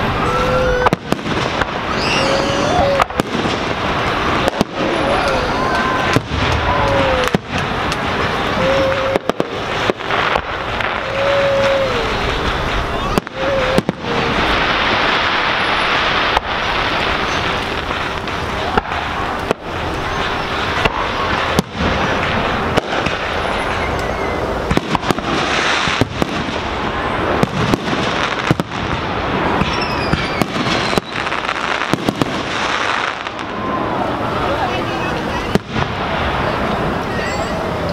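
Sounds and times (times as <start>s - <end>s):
continuous noise: 0.0s - 37.9s
fireworks bangs and crackles: 0.0s - 37.9s.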